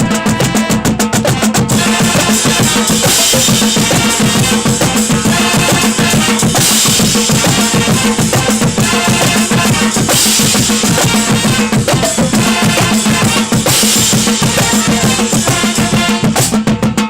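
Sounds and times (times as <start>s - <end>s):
bass drums: 0.0s - 17.0s
snare and tenor drums: 0.0s - 17.0s
cymbals ringing: 1.7s - 16.4s.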